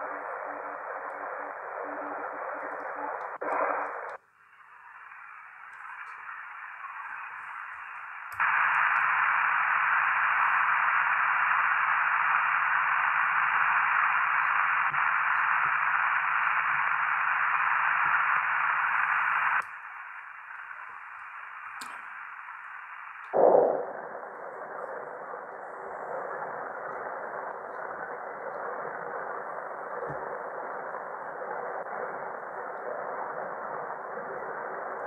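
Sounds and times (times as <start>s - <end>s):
faint low hum: 0.0s - 35.0s
radio static hiss: 0.0s - 35.0s.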